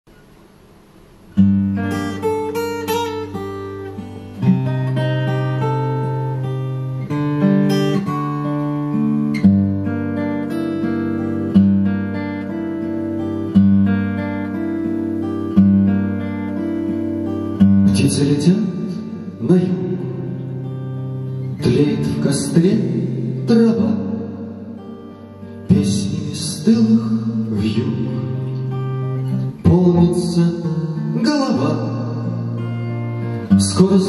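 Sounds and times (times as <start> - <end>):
acoustic guitar playing: 0.1 - 34.0.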